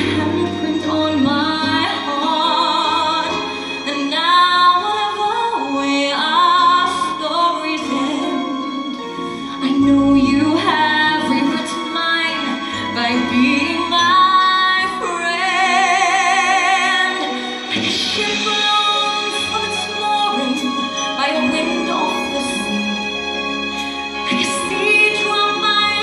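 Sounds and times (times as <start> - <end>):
women singing a ballad: 0.0 - 23.0
instrumental accompaniment: 0.0 - 26.0.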